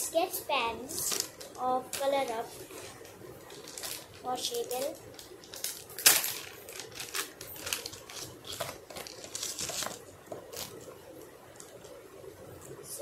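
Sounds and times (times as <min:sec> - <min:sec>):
plastic packet crinkling: 0:01.0 - 0:11.8.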